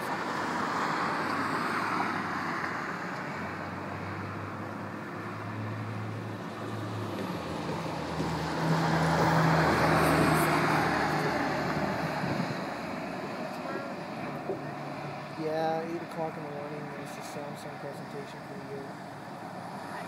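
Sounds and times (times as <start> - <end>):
tyre noise of passing vehicles: 0.0 - 20.0
low engine hum: 3.2 - 20.0.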